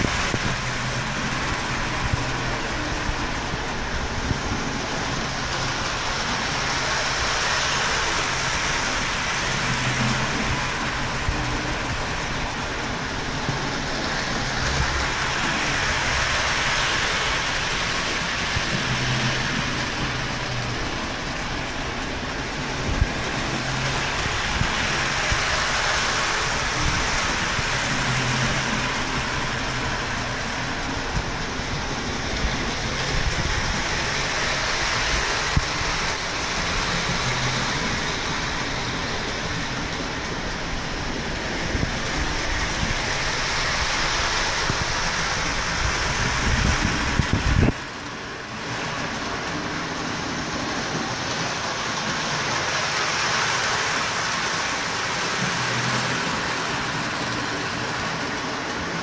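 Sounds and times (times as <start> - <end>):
model train rolling whir: 0.0 - 59.0.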